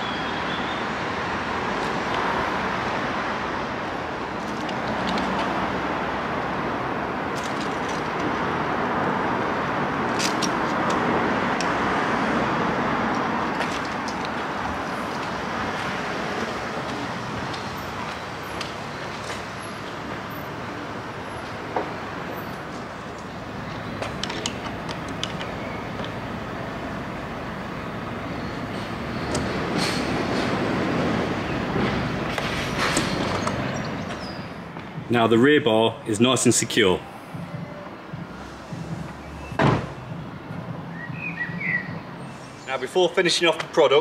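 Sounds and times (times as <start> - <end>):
road traffic rushing: 0.0 - 44.0.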